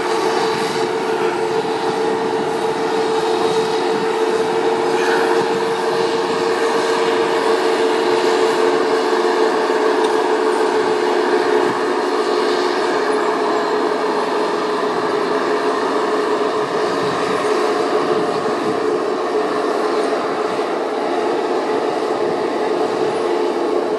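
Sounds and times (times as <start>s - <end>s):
forwarder machinery whine and rumble: 0.0s - 23.9s.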